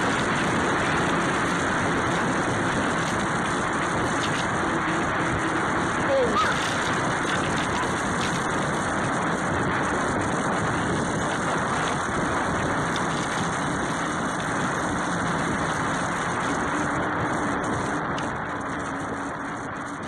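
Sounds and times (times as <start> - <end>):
bicycle tyre noise: 0.0 - 20.0
wind rush on microphone: 0.0 - 20.0.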